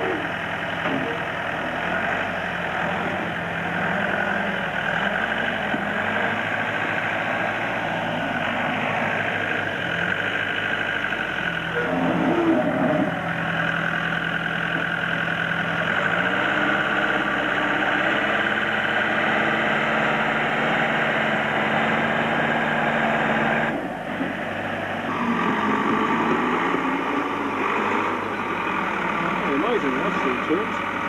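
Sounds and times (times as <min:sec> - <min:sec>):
backhoe diesel engine running: 0:00.0 - 0:31.0.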